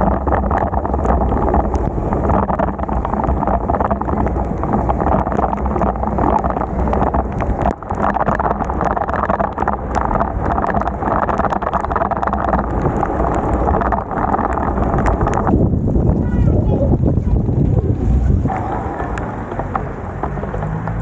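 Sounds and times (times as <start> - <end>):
rain and road spray patter: 0.0 - 21.0
wind rush on microphone: 0.0 - 21.0.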